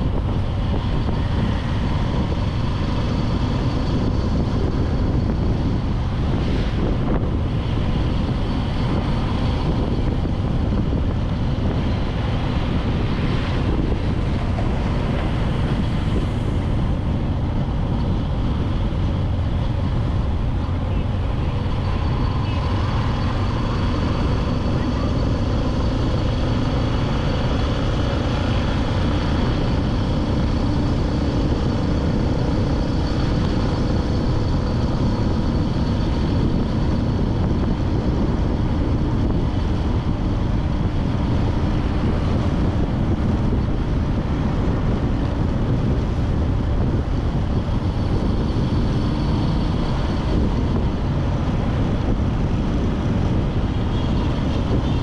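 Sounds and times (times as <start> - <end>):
motorbike engine hum: 0.0 - 55.0
wind rumble and road noise: 0.0 - 55.0.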